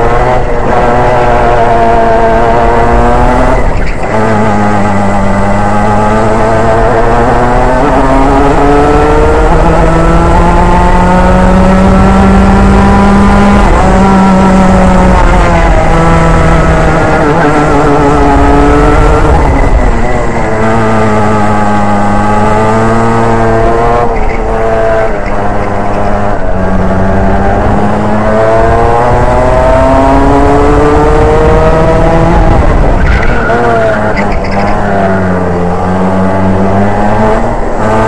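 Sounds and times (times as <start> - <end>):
kart engine revving: 0.0 - 38.0.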